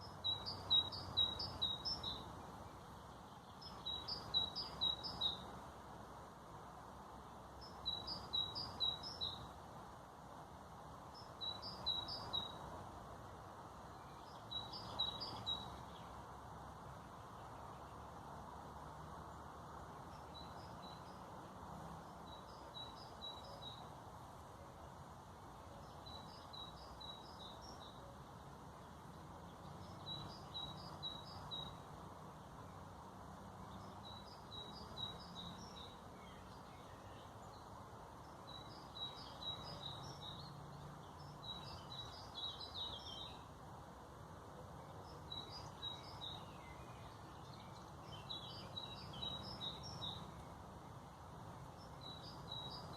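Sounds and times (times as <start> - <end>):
songbird chirping: 0.0 - 52.9.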